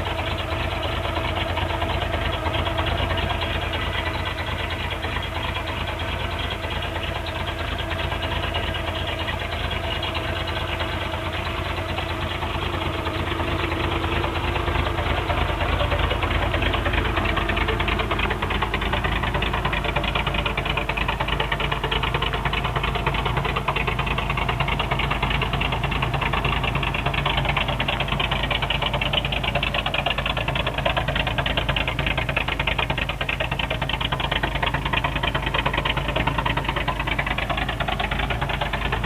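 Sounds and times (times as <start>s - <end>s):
pickup engine idling: 0.0s - 39.0s.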